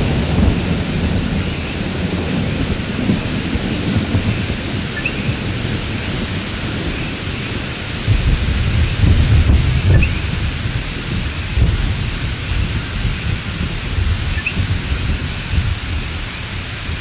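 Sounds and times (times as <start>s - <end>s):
heavy rain on foliage: 0.0s - 17.0s.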